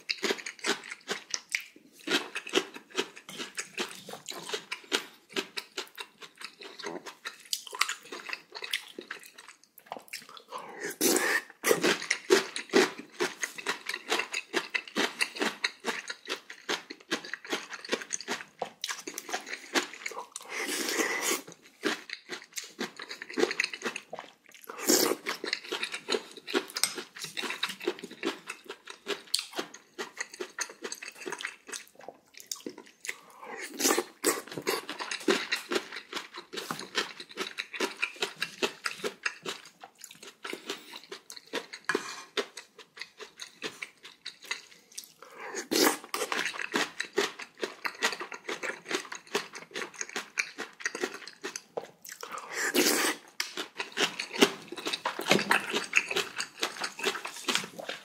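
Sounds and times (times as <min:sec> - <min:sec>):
person chewing and crunching: 0:00.0 - 0:58.0.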